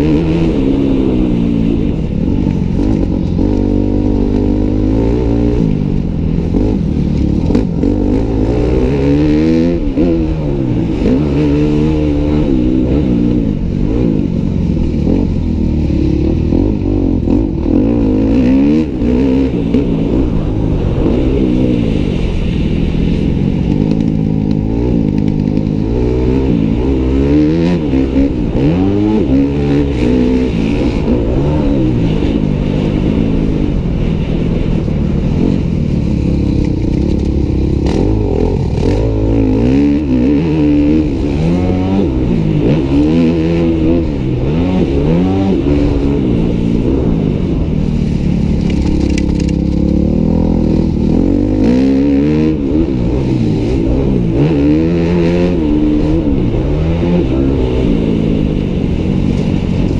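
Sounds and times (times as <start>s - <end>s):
motocross engine racing: 0.0s - 59.9s.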